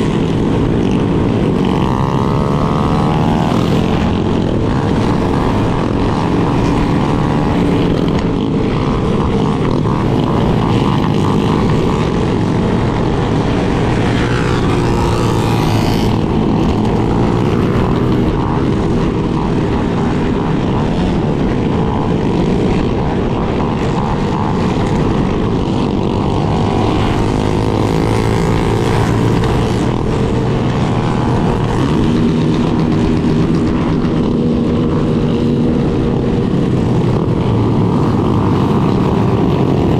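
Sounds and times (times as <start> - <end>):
drone of other motorcycles: 0.0 - 39.9
motorcycle engine cruising: 0.0 - 39.9
wind rumbling on microphone: 0.0 - 39.9.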